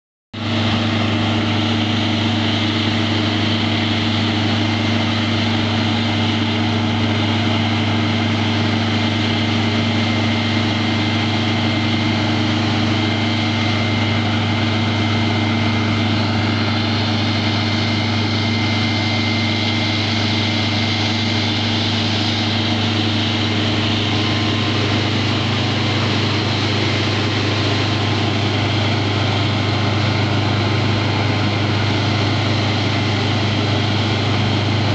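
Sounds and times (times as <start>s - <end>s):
diesel engine running: 0.4s - 34.9s
water jetting: 0.4s - 34.9s.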